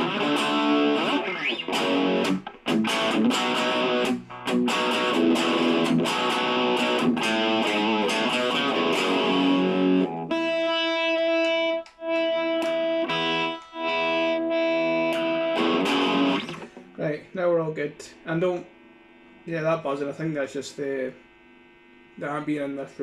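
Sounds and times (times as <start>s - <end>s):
electric guitar chords: 0.0s - 19.5s.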